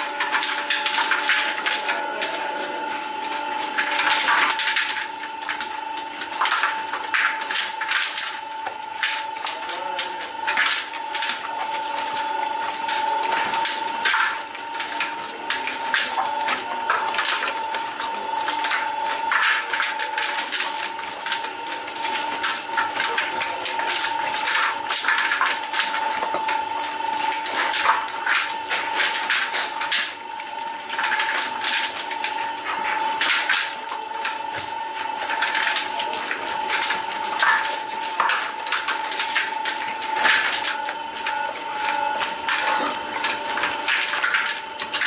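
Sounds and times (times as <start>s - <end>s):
machine hum: 0.0s - 45.0s.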